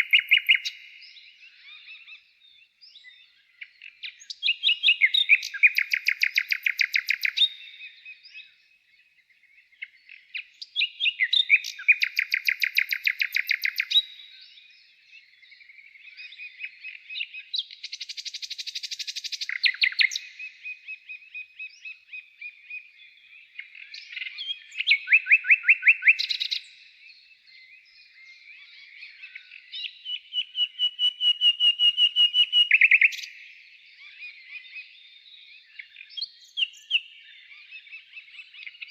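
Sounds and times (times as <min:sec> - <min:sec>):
songbird trilling: 0:00.0 - 0:08.6, 0:09.7 - 0:38.9.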